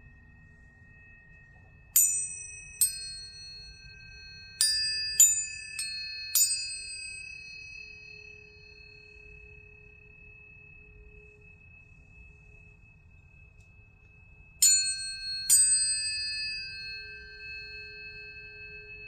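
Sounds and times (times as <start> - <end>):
low steady hum: 0.0 - 19.0
tuning forks ringing: 0.0 - 19.0.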